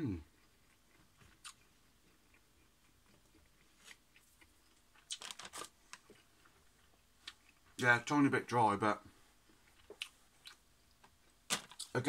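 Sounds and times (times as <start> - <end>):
faint chewing mouth clicks: 0.2 - 7.8, 9.4 - 12.0.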